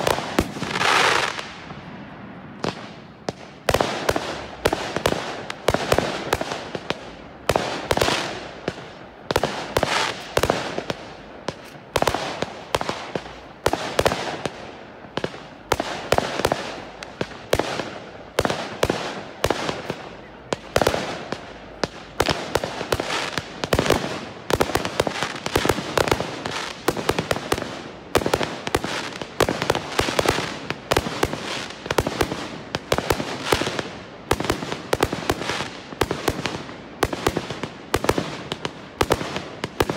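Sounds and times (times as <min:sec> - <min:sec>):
fireworks bursting with sharp bangs: 0:00.0 - 0:39.9.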